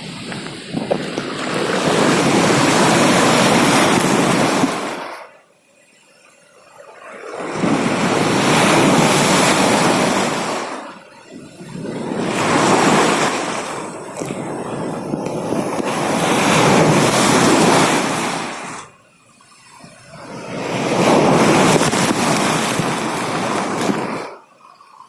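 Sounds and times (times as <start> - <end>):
waves breaking on shore: 0.0 - 5.6, 6.7 - 25.0.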